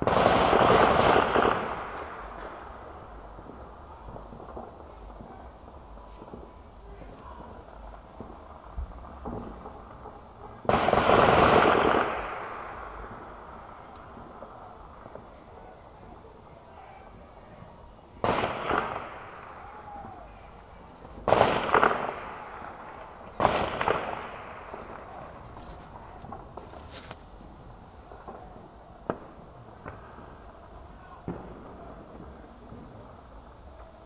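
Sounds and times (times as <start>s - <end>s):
firecracker bangs: 0.0s - 15.4s, 18.2s - 34.0s
firecrackers crackling: 0.0s - 34.0s.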